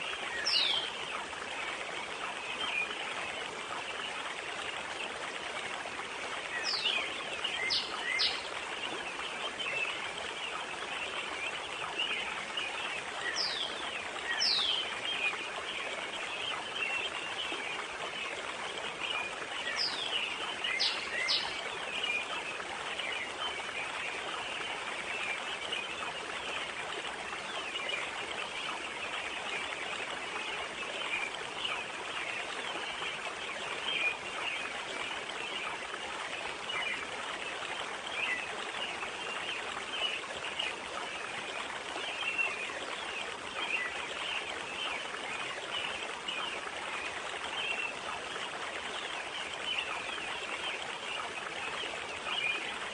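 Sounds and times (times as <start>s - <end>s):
running water hiss: 0.0s - 52.9s.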